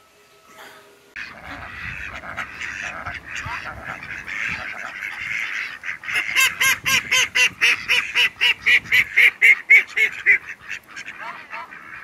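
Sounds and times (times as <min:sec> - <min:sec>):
waterfowl calling: 0:01.2 - 0:12.0.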